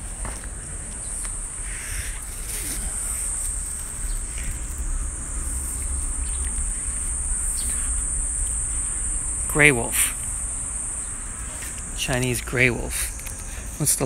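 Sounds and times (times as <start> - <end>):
low rumble: 0.0 - 13.8
cicadas singing: 0.0 - 14.0.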